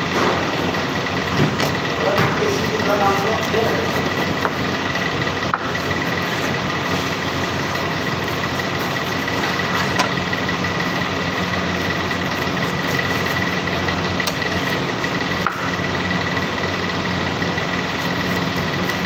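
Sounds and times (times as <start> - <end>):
machinery drone with high whine: 0.0 - 19.0.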